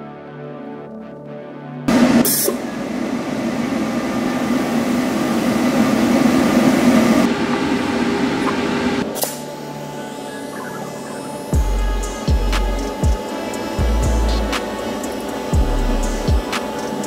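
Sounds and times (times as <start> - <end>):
gas hissing through regulator: 1.9 - 7.3, 8.5 - 17.0.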